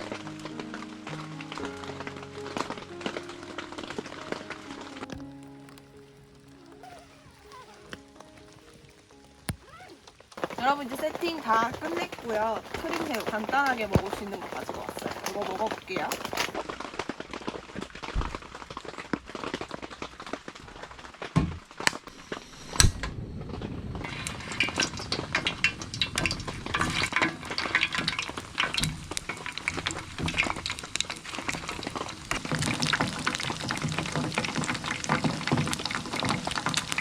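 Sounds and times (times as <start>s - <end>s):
shrimp sizzling in hot oil: 0.0s - 17.5s, 24.0s - 37.0s.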